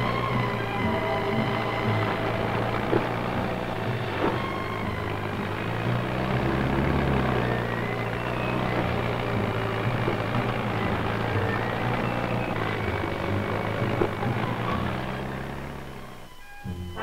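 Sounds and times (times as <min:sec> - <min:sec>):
bulldozer engine droning: 0:00.0 - 0:17.0.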